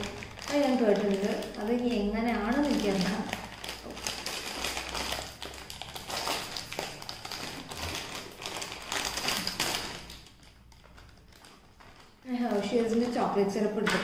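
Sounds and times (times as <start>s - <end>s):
plastic chips packet crinkling: 0.0s - 13.8s.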